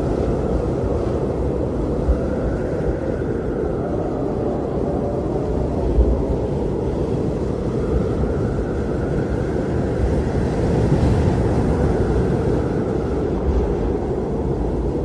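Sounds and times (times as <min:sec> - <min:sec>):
blizzard wind rushing: 0:00.0 - 0:15.0
faint wind whistle: 0:00.0 - 0:15.0.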